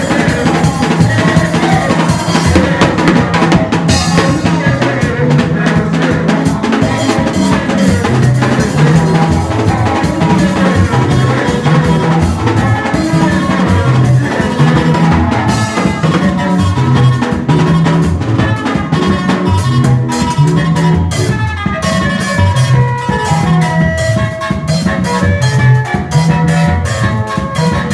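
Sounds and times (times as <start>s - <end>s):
bass line: 0.0s - 27.9s
drum kit playing a busy beat: 0.0s - 27.9s.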